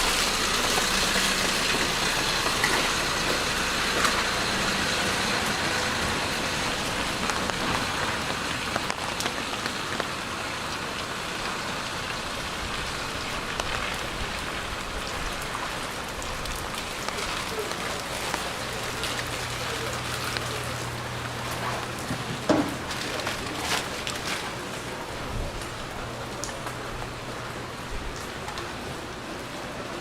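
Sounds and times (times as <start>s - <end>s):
vehicle engine hum: 0.0s - 11.8s, 16.7s - 30.0s
rain pattering on hard surfaces: 0.0s - 30.0s.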